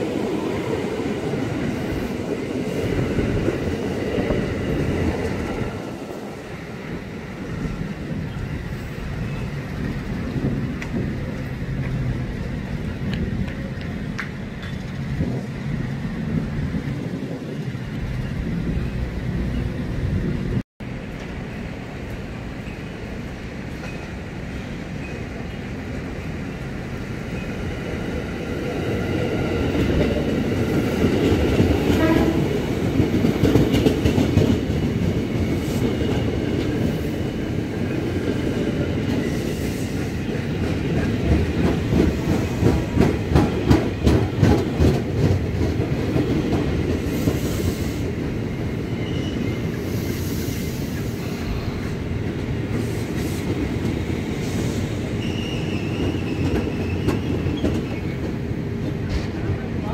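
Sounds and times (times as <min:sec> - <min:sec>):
electric train passing: 0:00.0 - 0:59.9.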